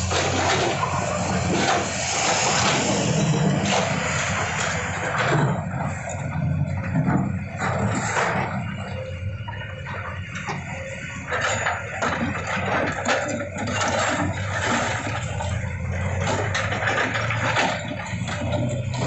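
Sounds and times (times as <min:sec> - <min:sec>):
excavator diesel engines running: 0:00.0 - 0:19.0
masonry crumbling and scraping: 0:00.0 - 0:19.0.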